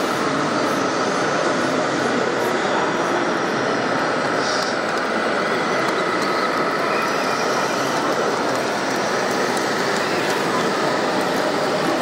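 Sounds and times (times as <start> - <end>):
model excavator whirring: 0.0 - 12.0
noisy hall background: 0.0 - 12.0.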